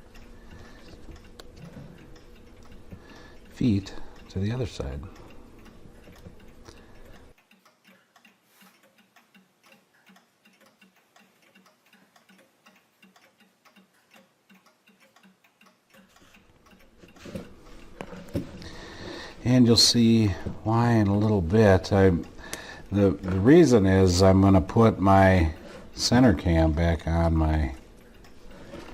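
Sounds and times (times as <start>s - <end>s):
clock ticking: 0.0s - 28.9s.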